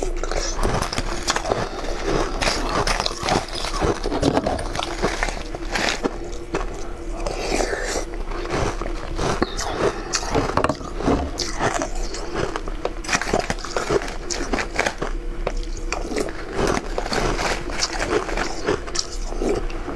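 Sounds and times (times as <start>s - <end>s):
ice crunched by chewing: 0.0s - 19.9s.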